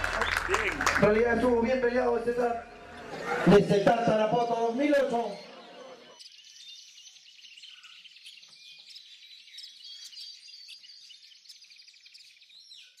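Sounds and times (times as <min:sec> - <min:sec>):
small birds chirping and trilling: 0:01.4 - 0:13.0.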